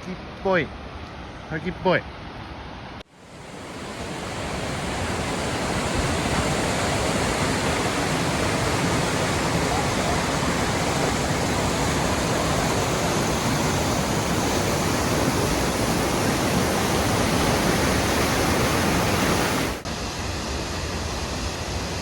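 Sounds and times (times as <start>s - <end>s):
waterfall rushing: 3.2s - 22.0s.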